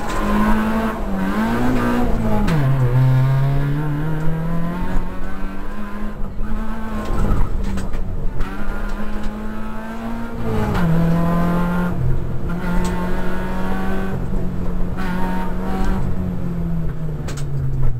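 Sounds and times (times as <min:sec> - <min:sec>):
car engine at high revs: 0:00.0 - 0:17.9.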